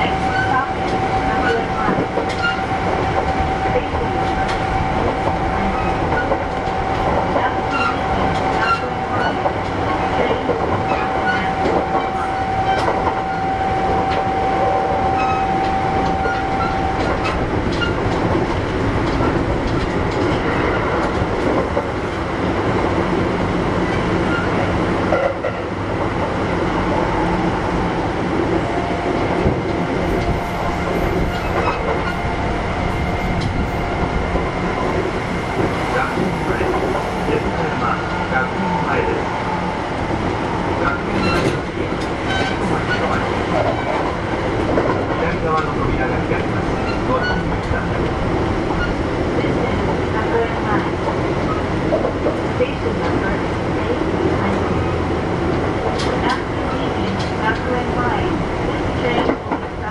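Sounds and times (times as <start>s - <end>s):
rail-joint clicks: 0.0s - 22.2s, 23.9s - 27.3s, 28.7s - 38.4s, 40.7s - 54.7s, 55.5s - 58.1s
train wheels rumbling on rail: 0.0s - 59.9s.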